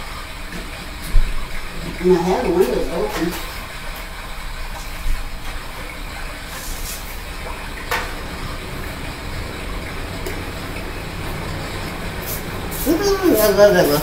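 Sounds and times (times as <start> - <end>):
electric fan blowing: 0.0 - 14.0.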